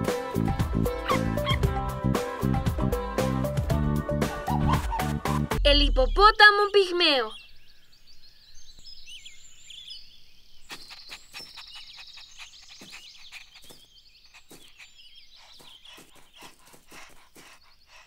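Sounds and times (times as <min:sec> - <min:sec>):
birds chirping: 0:00.0 - 0:01.9, 0:04.3 - 0:18.0.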